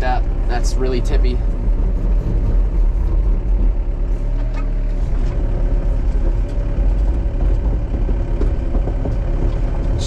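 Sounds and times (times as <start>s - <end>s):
excavator diesel engine straining: 0.0s - 10.0s
wood knocks and creaks: 1.6s - 10.0s.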